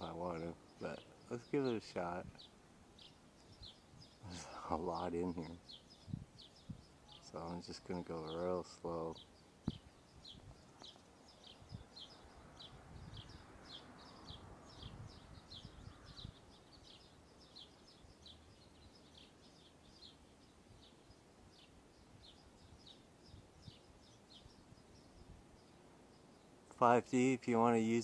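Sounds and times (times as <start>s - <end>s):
small bird chirping: 0.0s - 26.8s.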